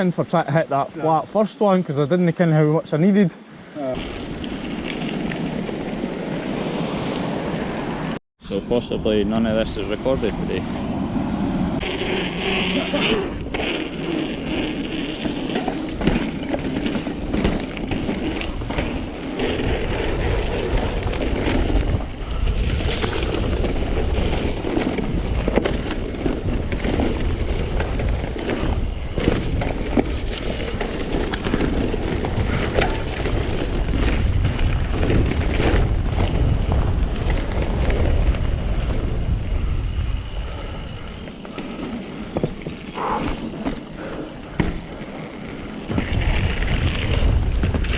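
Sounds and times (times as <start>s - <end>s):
mountain bike rumbling and rattling: 3.8s - 8.2s, 9.3s - 47.9s.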